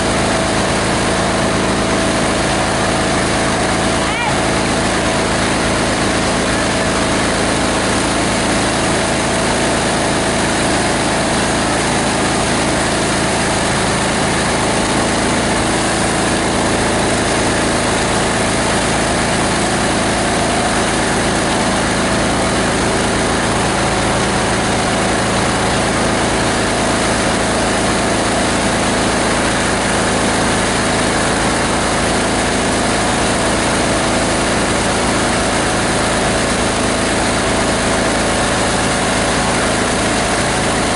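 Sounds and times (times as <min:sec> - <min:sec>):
diesel engine driving grinder: 0:00.0 - 0:40.9.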